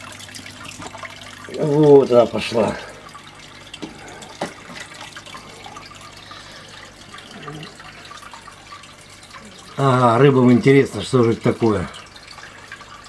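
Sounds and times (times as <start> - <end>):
aquarium water trickling and bubbling: 0.0 - 13.0.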